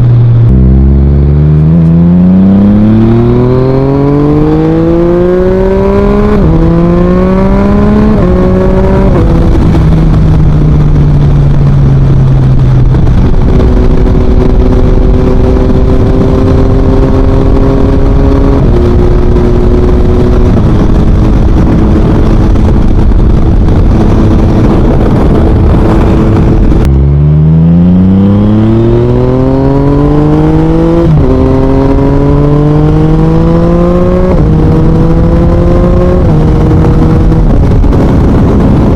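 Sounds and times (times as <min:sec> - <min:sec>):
motorcycle engine accelerating: 0:00.0 - 0:38.9
wind and road noise: 0:00.0 - 0:38.9.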